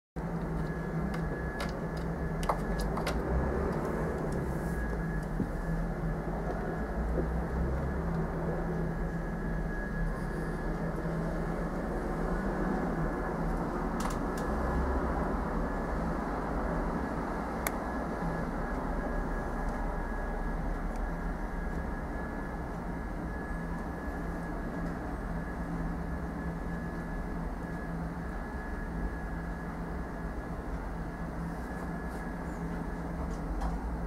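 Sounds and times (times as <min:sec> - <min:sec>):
faint high whine: 0:00.2 - 0:34.0
low mechanical hum: 0:00.2 - 0:34.0.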